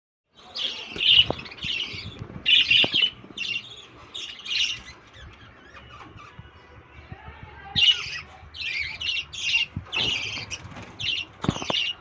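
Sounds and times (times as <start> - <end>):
lovebirds squawking: 0.6 - 6.6, 7.7 - 12.0.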